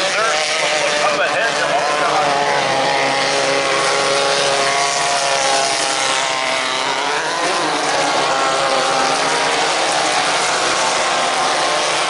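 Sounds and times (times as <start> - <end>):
race buggy engines running: 0.0 - 12.0.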